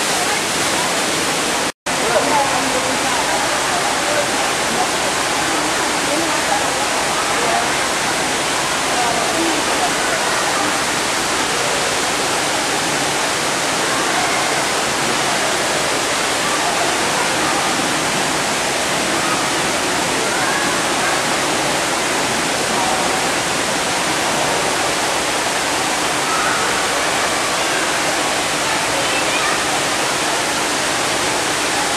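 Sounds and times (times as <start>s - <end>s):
faint voices: 0.0s - 31.9s.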